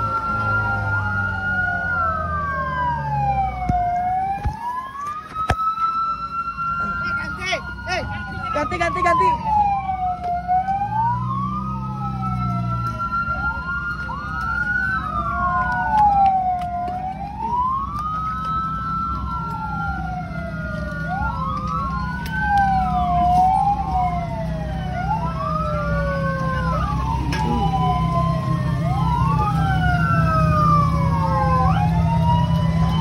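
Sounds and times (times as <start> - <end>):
fire engine sirens wailing: 0.0 - 33.0
low engine hum: 0.0 - 33.0.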